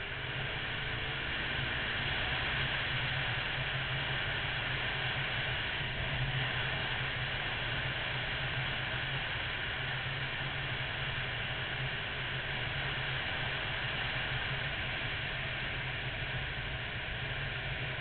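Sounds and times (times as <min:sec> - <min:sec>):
motorcycle engine drone: 0:00.0 - 0:18.0.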